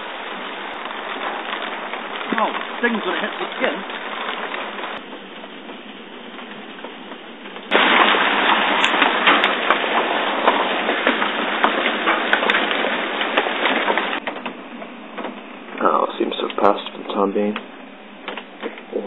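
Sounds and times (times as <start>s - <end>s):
hailstones clattering: 0.0s - 15.4s.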